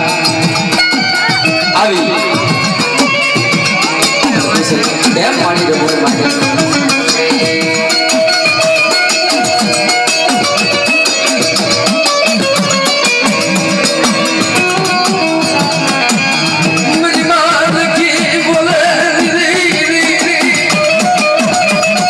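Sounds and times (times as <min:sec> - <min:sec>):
devotional folk music: 0:00.0 - 0:22.0.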